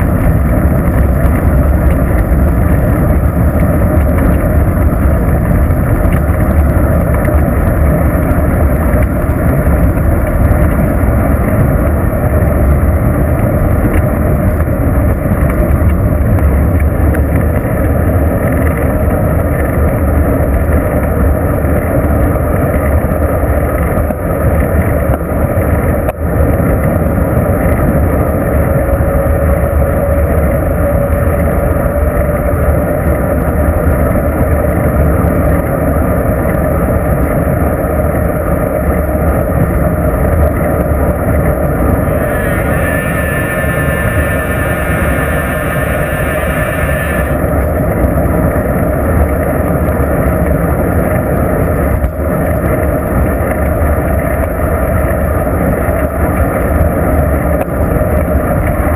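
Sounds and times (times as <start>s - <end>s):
wind rush on microphone: 0.0s - 58.9s.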